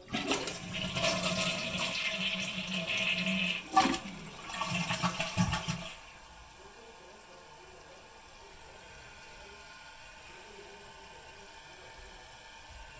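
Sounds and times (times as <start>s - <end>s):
toilet flushing: 0.0s - 12.9s.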